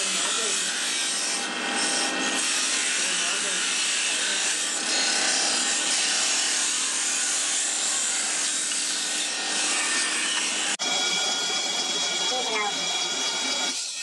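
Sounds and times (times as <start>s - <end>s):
knife grinding on abrasive wheel: 0.0s - 14.0s.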